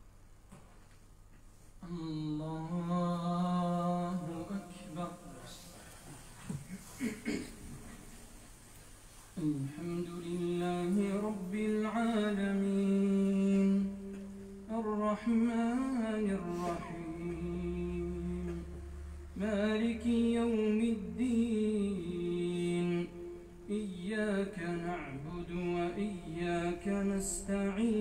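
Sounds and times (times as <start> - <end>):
man chanting melodically: 1.8 - 6.9, 9.4 - 28.0.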